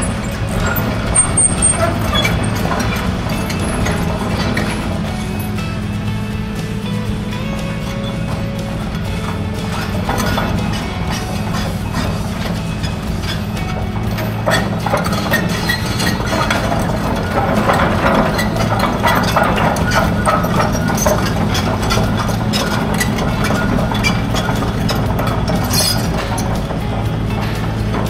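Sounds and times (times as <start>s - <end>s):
diesel engine running: 0.0s - 28.0s
tracks clattering over pavement: 0.0s - 28.0s.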